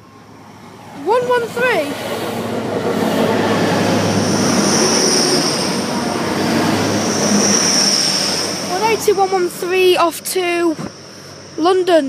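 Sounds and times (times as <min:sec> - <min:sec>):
train rushing past: 0:00.0 - 0:11.9
high train whine: 0:00.0 - 0:12.0.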